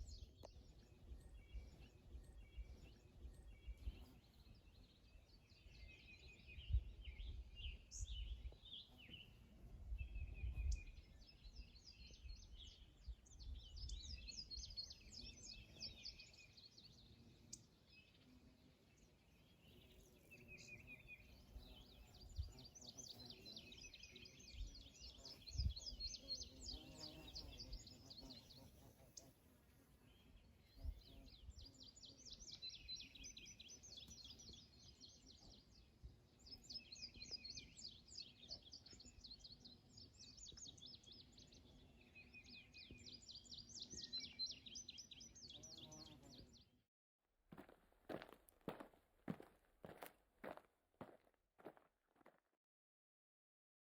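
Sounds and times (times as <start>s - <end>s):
birds chirping trills: 0.0s - 29.3s, 30.0s - 46.7s.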